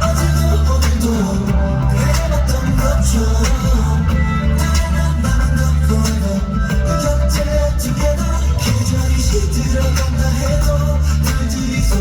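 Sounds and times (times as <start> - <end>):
pop song through loudspeakers: 0.0 - 12.0.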